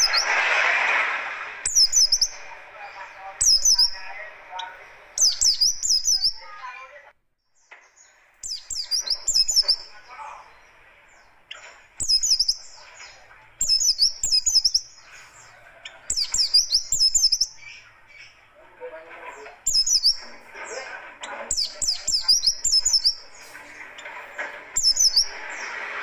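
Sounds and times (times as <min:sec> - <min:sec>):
bird singing fast high chirps: 0:00.0 - 0:00.4, 0:01.6 - 0:06.7, 0:07.5 - 0:18.4, 0:19.6 - 0:20.4, 0:21.5 - 0:24.1, 0:24.7 - 0:26.0
bird scratchy chatter: 0:00.0 - 0:00.7, 0:01.6 - 0:06.7, 0:08.4 - 0:26.0.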